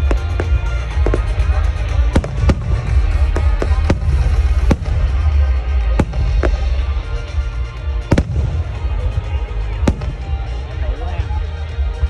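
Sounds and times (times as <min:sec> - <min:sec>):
fireworks bangs: 0:00.0 - 0:10.6
music playing: 0:00.0 - 0:12.0.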